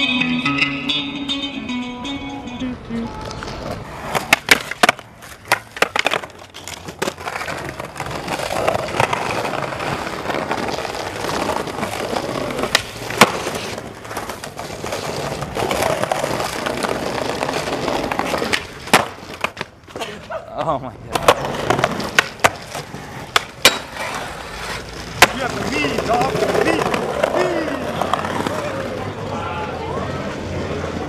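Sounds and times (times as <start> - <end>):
skateboard wheels rolling on stone: 0.0 - 31.0
skateboard clacks: 3.0 - 29.4
skateboard clattering on ground: 3.2 - 29.2.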